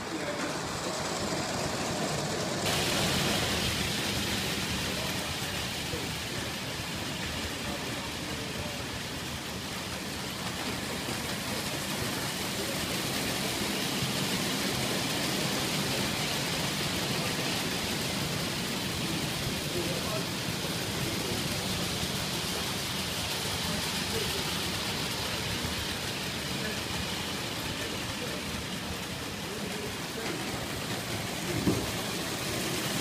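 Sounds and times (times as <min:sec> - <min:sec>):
model train wheels rattling on rails: 0:00.0 - 0:33.0.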